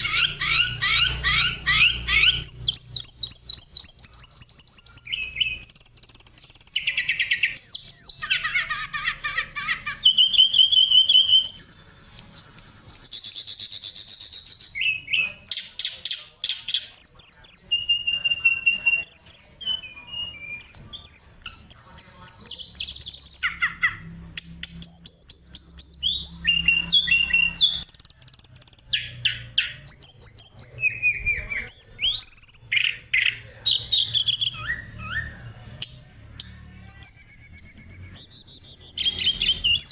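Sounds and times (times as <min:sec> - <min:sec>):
bird singing whistles and trills: 0:00.0 - 0:08.7, 0:09.6 - 0:39.9.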